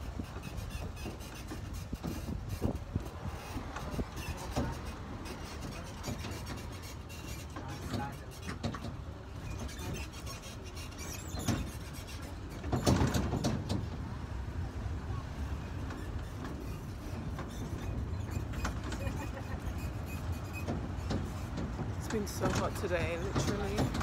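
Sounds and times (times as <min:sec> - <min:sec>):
road and wind noise: 0:00.0 - 0:24.0
road train rumbling: 0:00.0 - 0:24.0.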